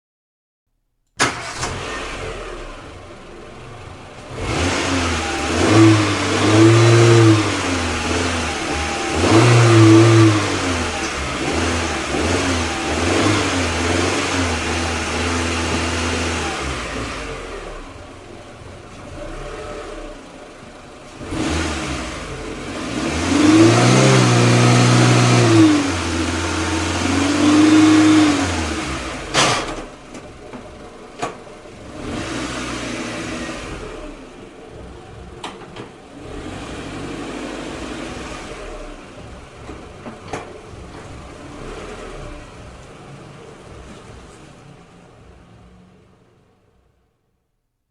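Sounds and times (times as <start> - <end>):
old car engine revving: 1.2 - 46.2.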